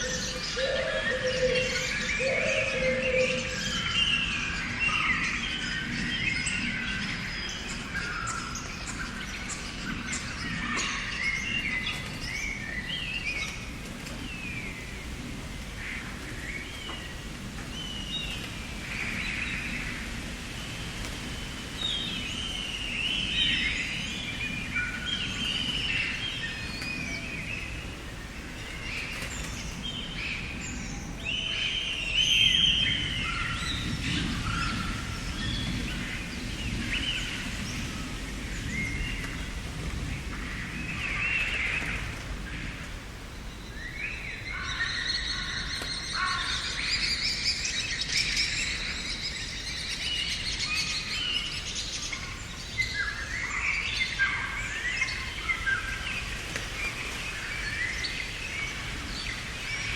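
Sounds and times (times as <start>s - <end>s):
songbirds chirping and singing: 0.0s - 59.9s
steady outdoor hiss: 0.0s - 59.9s.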